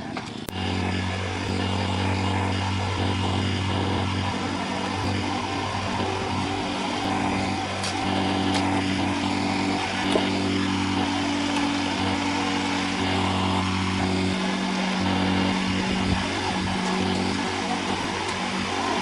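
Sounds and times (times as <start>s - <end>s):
heavy machinery engine droning: 0.0s - 19.0s.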